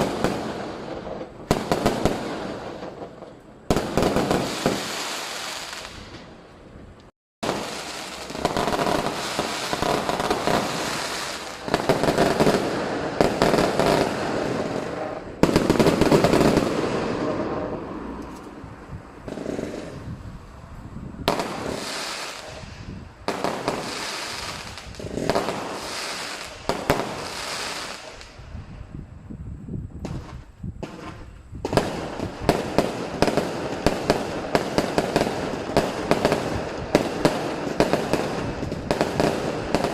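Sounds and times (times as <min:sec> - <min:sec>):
fireworks crackling and banging: 0:00.0 - 0:20.2, 0:21.2 - 0:28.8, 0:30.0 - 0:39.9.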